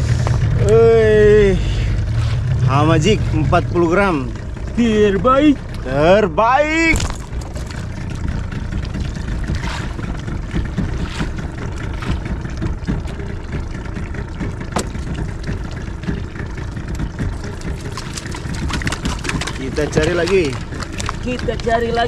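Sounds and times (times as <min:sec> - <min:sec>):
boat motor idling: 0:00.0 - 0:22.0
water against hull: 0:00.0 - 0:22.0.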